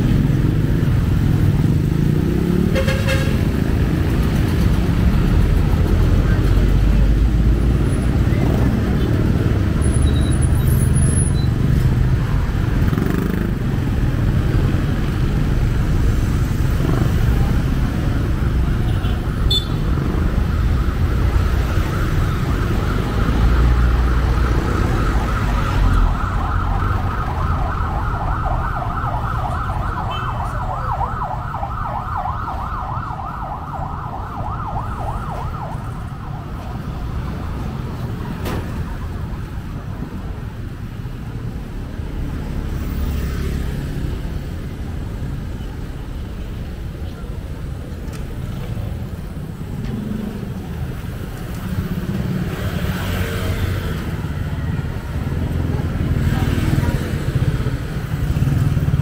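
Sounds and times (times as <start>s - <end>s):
street traffic rumble: 0.0s - 59.0s
emergency siren wailing: 4.0s - 41.2s, 48.4s - 59.0s.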